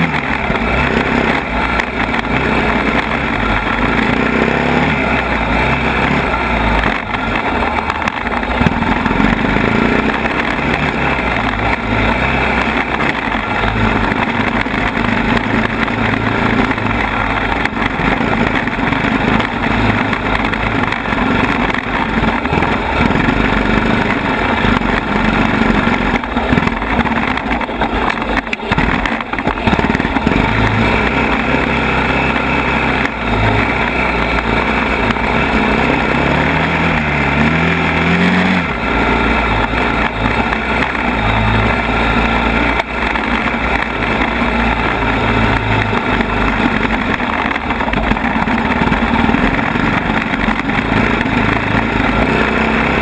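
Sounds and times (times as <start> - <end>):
atv engine revving: 0.0 - 53.0
knocks and rattles: 0.0 - 53.0.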